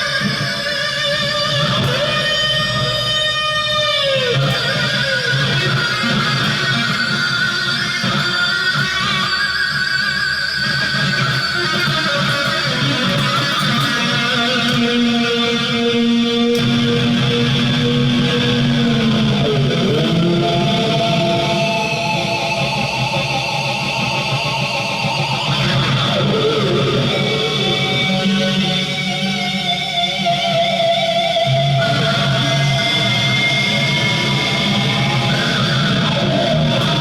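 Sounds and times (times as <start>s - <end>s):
electric guitar bending notes: 0.0s - 37.0s.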